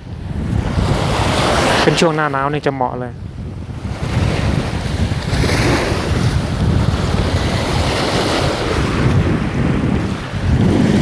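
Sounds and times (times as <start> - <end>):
sea waves on shore: 0.0 - 11.0
wind buffeting microphone: 0.0 - 11.0.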